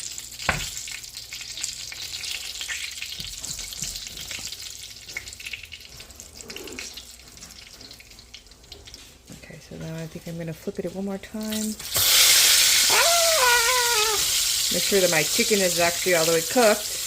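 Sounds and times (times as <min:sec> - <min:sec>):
tortilla sizzling in a pan: 0:00.0 - 0:09.3, 0:11.7 - 0:17.0.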